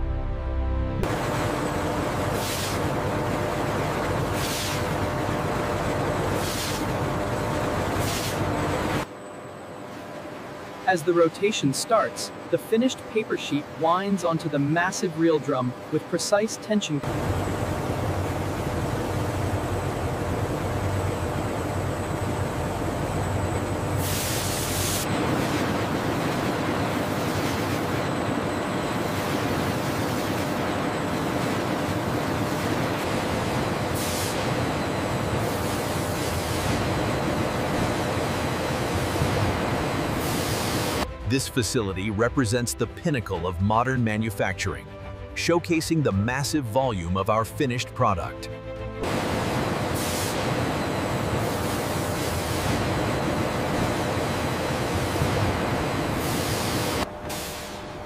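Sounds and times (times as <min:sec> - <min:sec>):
reel winder machinery hum: 0:01.0 - 0:41.1, 0:48.6 - 0:58.0.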